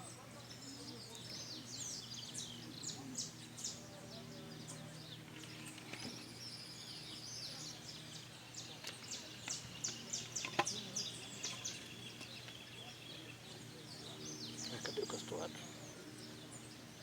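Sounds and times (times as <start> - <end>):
faint low hum: 0.0 - 17.0
songbird singing: 0.0 - 17.0.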